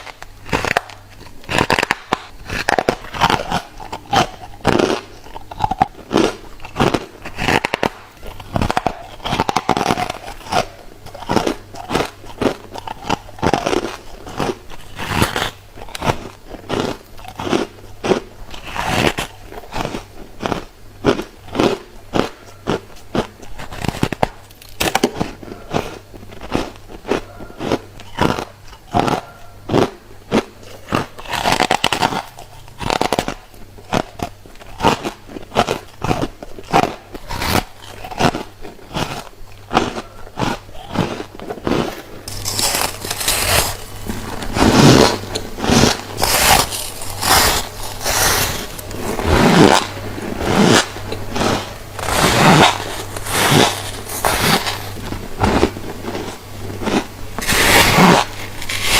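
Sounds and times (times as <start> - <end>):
person chewing crunchy frost: 0.0 - 58.9.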